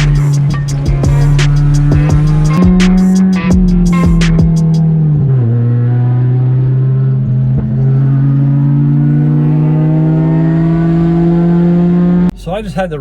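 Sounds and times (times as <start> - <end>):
race car engine under load: 0.0 - 13.0.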